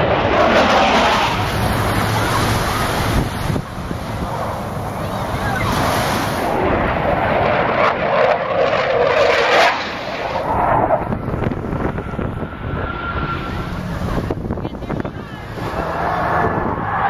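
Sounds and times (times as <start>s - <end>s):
jet engines flying past: 0.0s - 17.0s.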